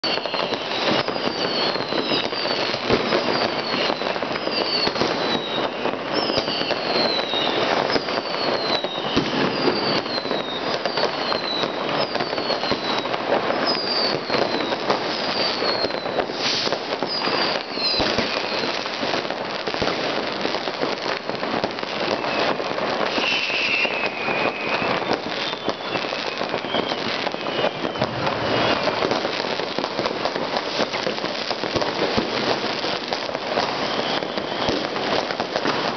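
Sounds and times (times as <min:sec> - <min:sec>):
falling firework whistles: 0:00.0 - 0:35.9
fireworks crackling bangs: 0:00.0 - 0:35.9.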